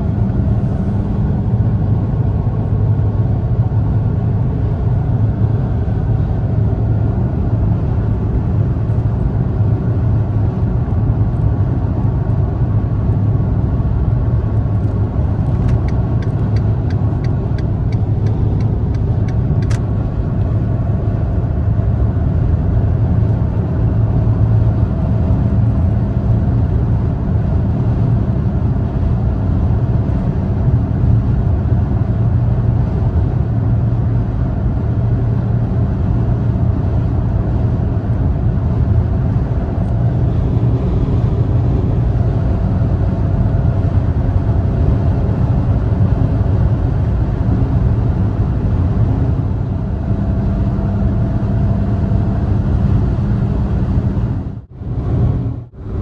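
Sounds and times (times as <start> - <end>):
car interior engine and road drone: 0.0 - 56.0.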